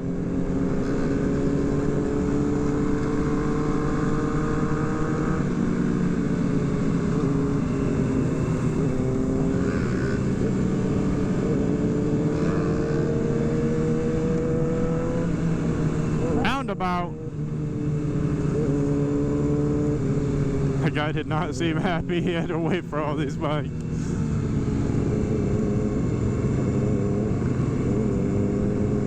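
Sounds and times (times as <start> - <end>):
motorcycle engines cruising: 0.0 - 29.0.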